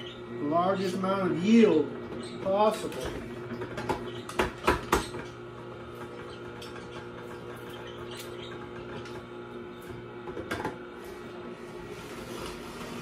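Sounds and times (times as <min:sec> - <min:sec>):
juicer humming: 0:00.0 - 0:13.0.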